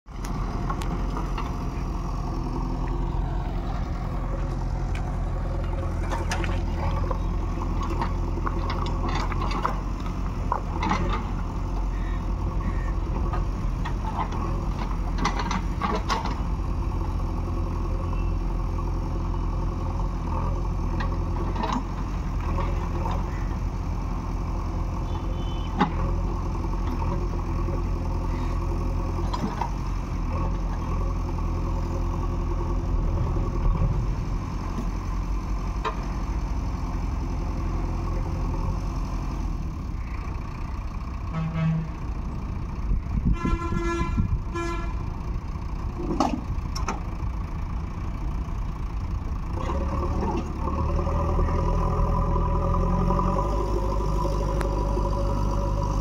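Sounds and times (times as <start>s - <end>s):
diesel engine running: 0.1s - 56.0s.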